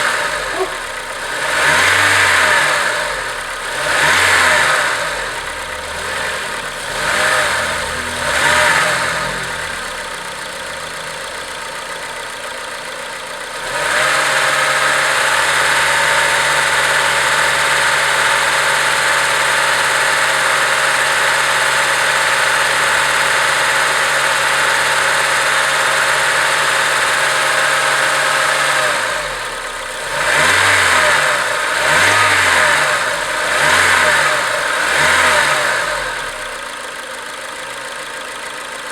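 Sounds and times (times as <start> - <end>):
car engine blipping and idling: 0.0 - 38.9.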